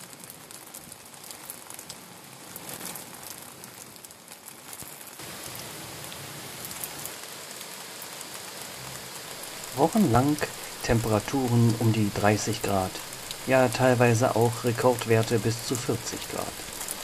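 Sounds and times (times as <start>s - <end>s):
heavy rain pouring: 0.0s - 17.0s
sharp raindrop impacts: 0.0s - 17.0s.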